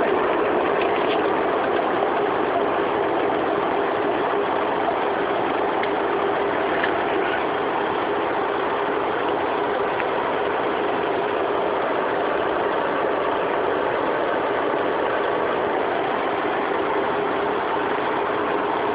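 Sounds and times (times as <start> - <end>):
car engine running steadily: 0.0 - 18.9.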